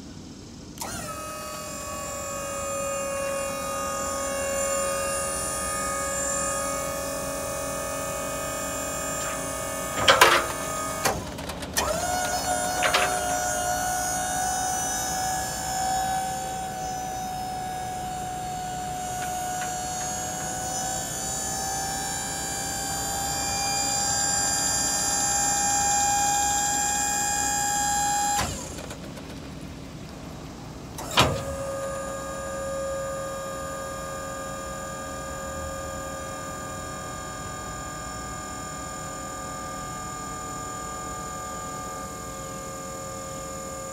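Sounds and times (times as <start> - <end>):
hydraulic pump whine: 0.0 - 43.9.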